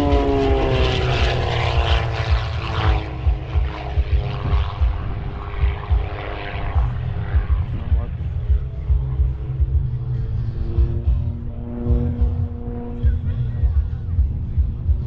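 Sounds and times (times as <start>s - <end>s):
propeller airplane flying past: 0.0s - 15.0s
wind buffeting microphone: 0.0s - 15.0s.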